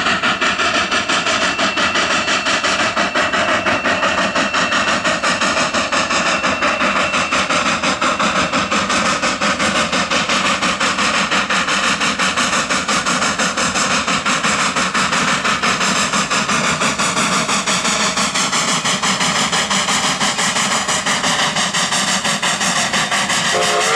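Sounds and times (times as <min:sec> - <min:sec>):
steam hiss and running noise: 0:00.0 - 0:23.9
steam locomotive chuffing: 0:00.0 - 0:23.9.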